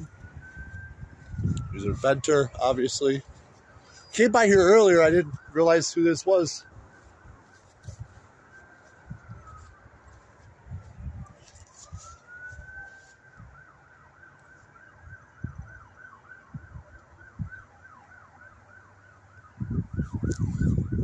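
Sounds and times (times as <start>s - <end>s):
faint emergency siren: 0.0s - 21.0s.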